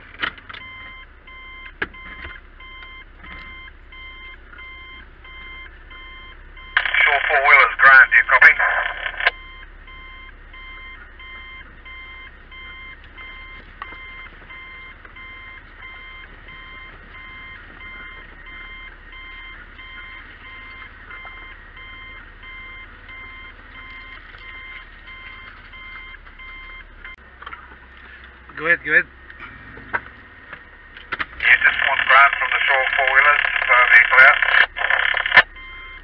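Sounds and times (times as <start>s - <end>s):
idling vehicle engine rumble: 0.0s - 36.0s
vehicle warning beeper: 0.5s - 27.2s, 28.5s - 36.0s.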